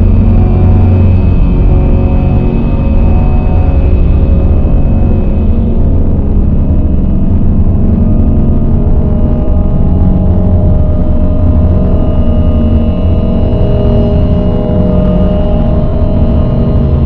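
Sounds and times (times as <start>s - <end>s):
dark ambient drone music: 0.0s - 17.0s.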